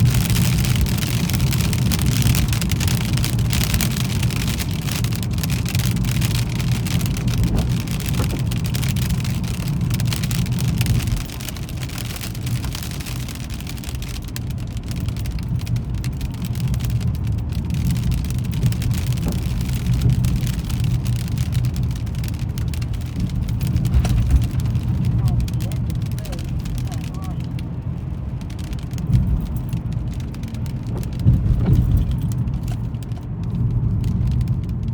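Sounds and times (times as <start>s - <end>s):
engine and tyres rumbling: 0.0s - 34.9s
precipitation on a car: 0.0s - 34.9s.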